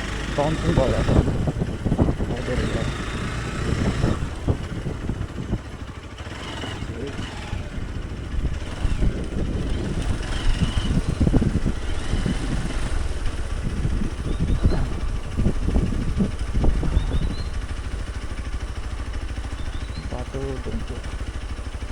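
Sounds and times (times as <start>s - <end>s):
motorcycle engine low note: 0.0s - 21.9s.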